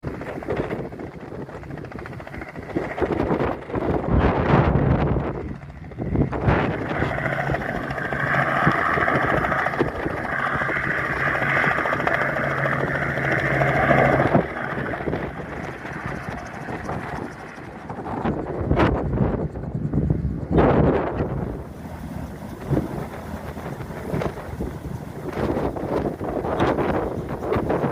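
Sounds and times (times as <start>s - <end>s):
helicopter droning: 0.0s - 27.9s
wind buffeting microphone: 0.0s - 27.9s.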